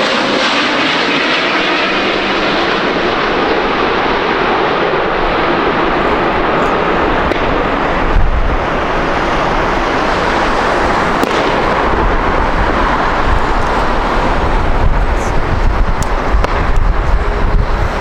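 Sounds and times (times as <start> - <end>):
jet airliner passing: 0.0 - 18.0.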